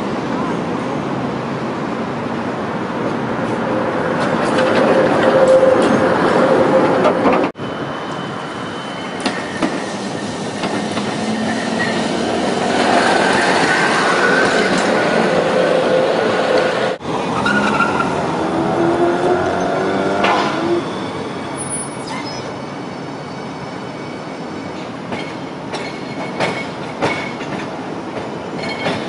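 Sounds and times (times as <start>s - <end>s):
tram rolling past: 0.0s - 29.0s
wheels squealing on rails: 3.4s - 27.5s, 28.3s - 29.0s.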